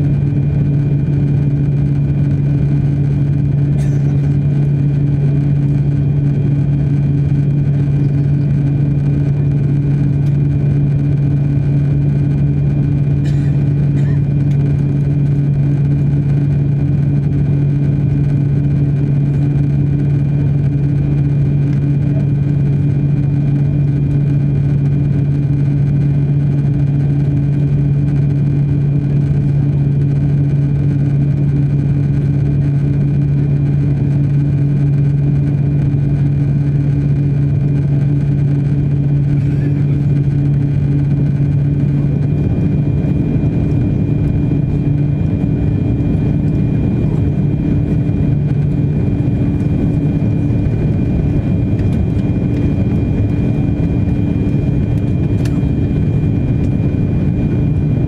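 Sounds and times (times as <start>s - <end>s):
aircraft cabin engine drone: 0.0s - 58.0s.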